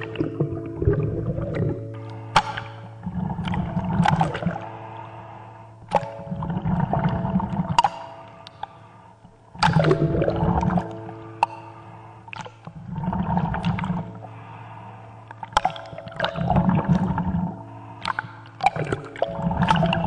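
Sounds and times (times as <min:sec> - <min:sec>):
steady low drone: 0:00.0 - 0:20.0
water gurgling and sloshing: 0:00.0 - 0:20.0.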